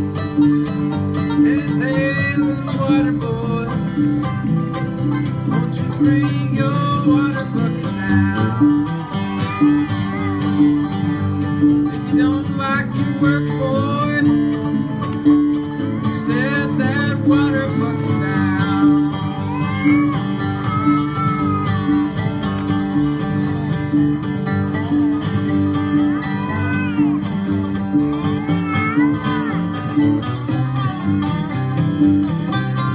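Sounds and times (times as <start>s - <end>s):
bluegrass band playing: 0.0s - 32.9s
upright bass line: 0.0s - 32.9s.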